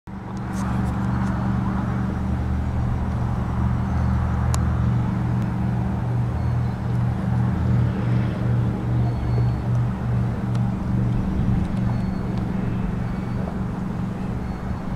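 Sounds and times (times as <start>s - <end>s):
engine humming: 0.1s - 14.9s.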